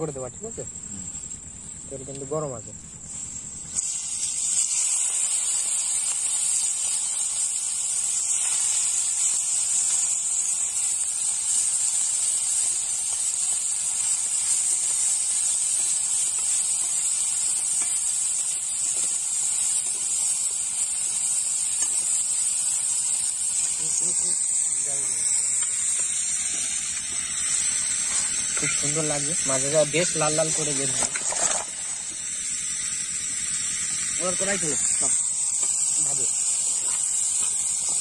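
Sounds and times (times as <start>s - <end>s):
prawns sizzling in hot oil: 0.7s - 38.0s.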